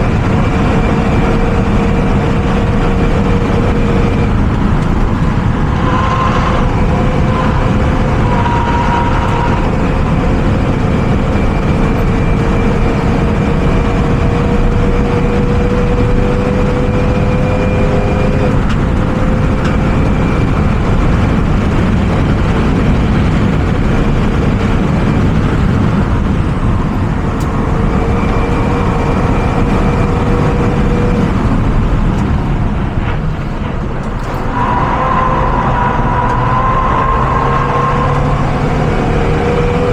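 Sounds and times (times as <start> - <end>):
car engine running at speed: 0.0 - 39.9
road and wind noise: 0.0 - 39.9.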